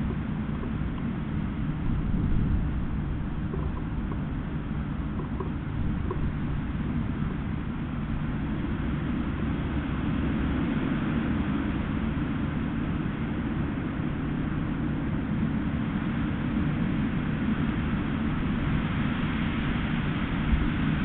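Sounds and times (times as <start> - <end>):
gale-force wind on microphone: 0.0 - 14.8, 16.6 - 21.0.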